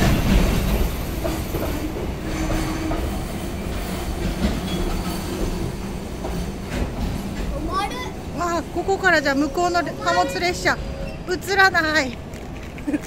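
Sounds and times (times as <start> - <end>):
train wheels rolling on track: 0.0 - 13.0.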